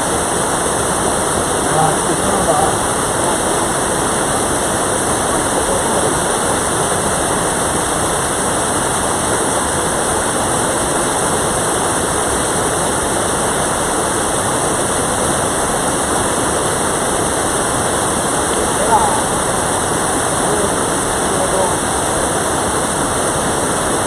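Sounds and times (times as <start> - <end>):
stream water rushing: 0.0 - 24.0.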